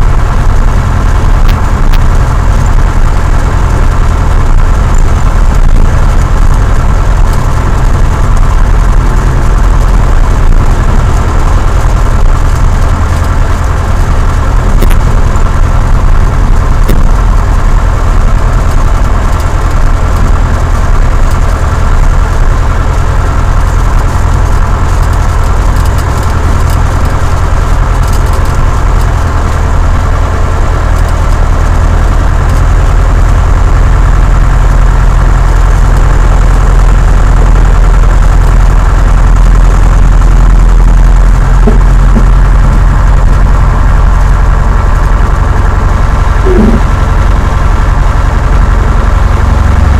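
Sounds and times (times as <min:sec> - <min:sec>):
light aircraft engine and propeller: 0:00.0 - 0:49.9.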